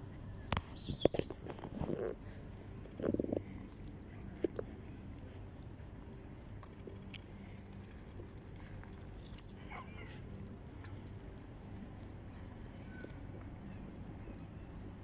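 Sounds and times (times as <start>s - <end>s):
steady low hum: 0.0s - 15.0s
cats chewing and smacking: 0.1s - 15.0s.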